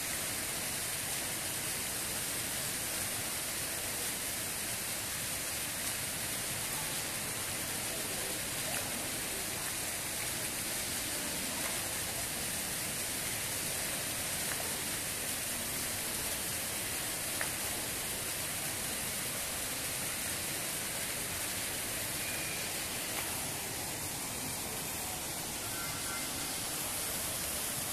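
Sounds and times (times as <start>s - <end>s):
fountain water splashing: 0.0s - 27.9s.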